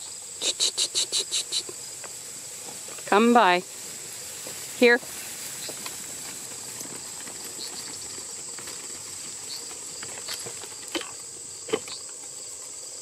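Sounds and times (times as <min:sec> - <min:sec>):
crickets chirring: 0:00.0 - 0:13.0
sheep moving clicks and rustles: 0:01.2 - 0:13.0.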